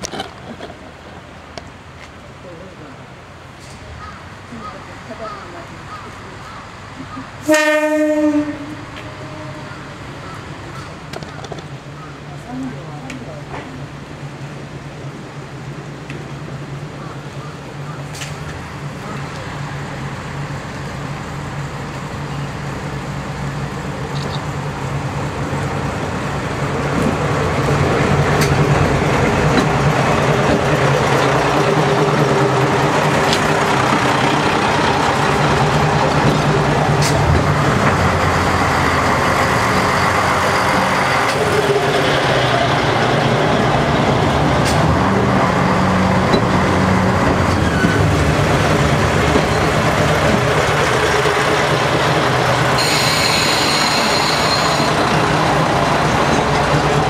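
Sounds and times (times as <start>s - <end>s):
diesel train engines: 0.0s - 57.0s.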